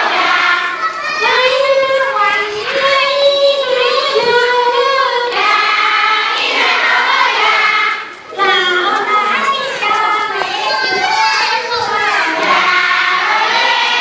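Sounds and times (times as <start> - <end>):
children singing: 0.0 - 14.0.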